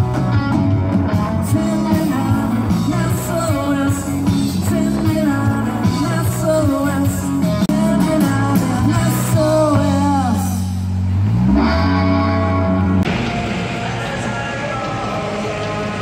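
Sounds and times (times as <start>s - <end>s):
electric guitar bent notes: 0.0s - 16.0s
live rock band playing: 0.0s - 16.0s.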